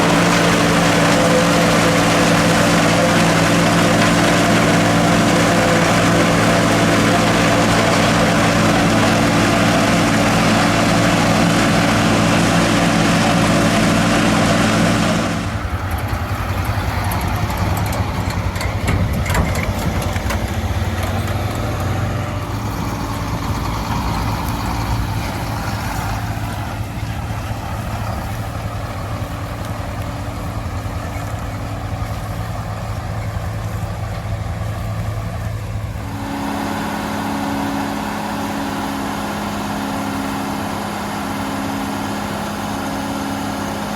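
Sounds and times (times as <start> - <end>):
forage harvester chopping corn: 0.0 - 43.9
tractor diesel engine under load: 0.0 - 43.9.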